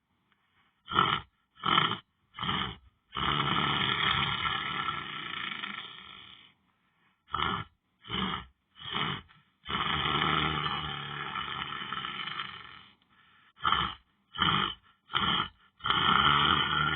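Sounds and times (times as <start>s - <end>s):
person snoring loudly: 0.8s - 6.5s, 7.3s - 13.0s, 13.6s - 16.9s.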